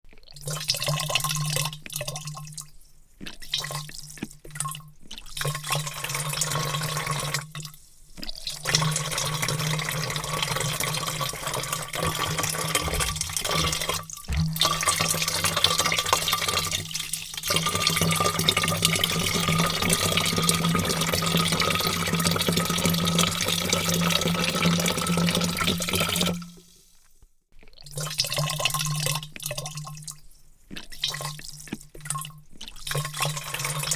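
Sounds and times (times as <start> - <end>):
water pouring into a vat: 0.1 - 26.7, 27.6 - 33.9.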